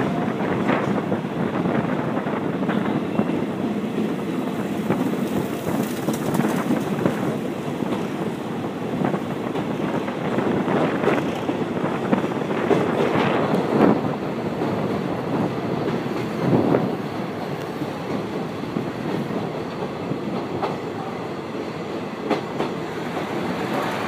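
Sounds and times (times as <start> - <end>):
train wheels rumbling: 0.0 - 24.0
wind buffeting microphone: 0.0 - 24.0.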